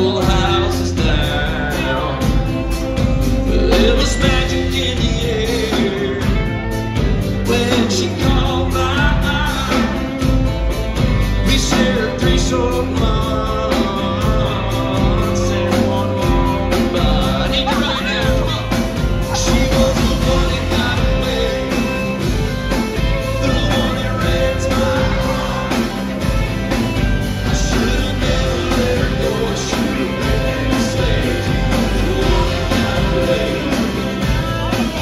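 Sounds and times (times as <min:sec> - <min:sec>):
live country band playing: 0:00.0 - 0:35.0
man singing: 0:00.0 - 0:35.0.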